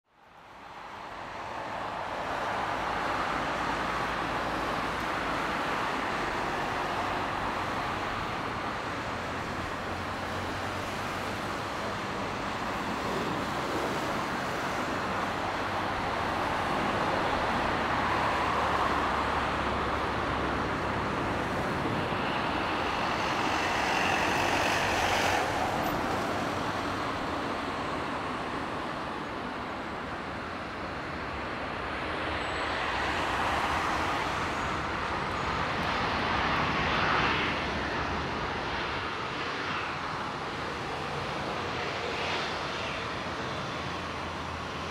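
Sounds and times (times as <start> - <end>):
jet engines roaring: 1.2 - 44.9.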